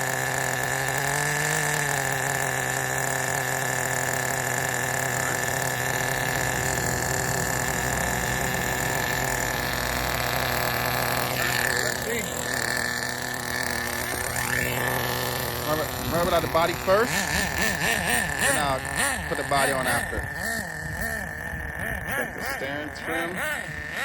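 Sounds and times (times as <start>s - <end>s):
small nitro engine idling: 0.0s - 24.0s.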